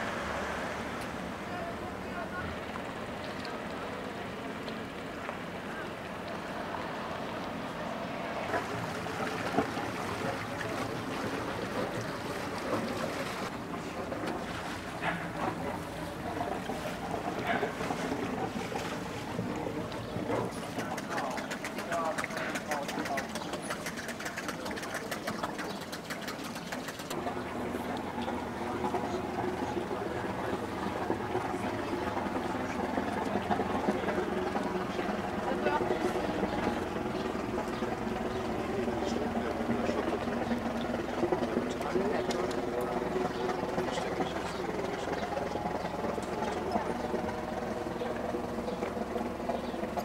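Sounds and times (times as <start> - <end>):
faint voices: 0.0 - 50.0
motor boat engine: 0.0 - 50.0
water and wind noise: 0.0 - 50.0.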